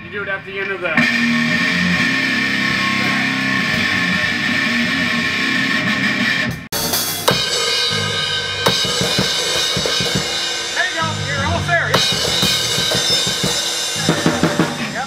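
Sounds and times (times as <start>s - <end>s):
drum kit with cymbals: 0.0s - 15.0s
electric guitar: 1.0s - 15.0s.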